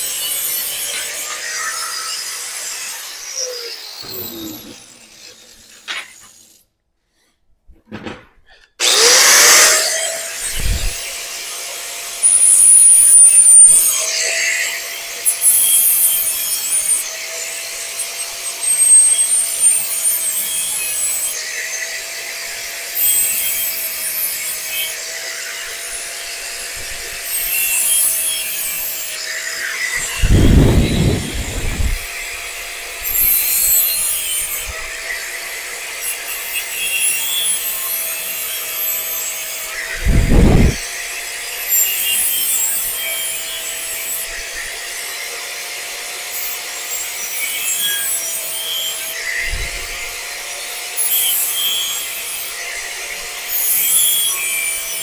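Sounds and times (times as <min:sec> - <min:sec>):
angle grinder cutting steel: 0:00.0 - 0:06.6, 0:08.8 - 0:55.0.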